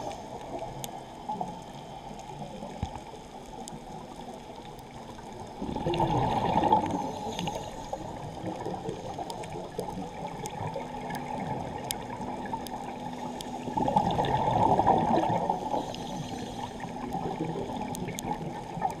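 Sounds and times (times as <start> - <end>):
faint steady hum: 0.0 - 19.0
underwater bubbles gurgling: 0.0 - 19.0.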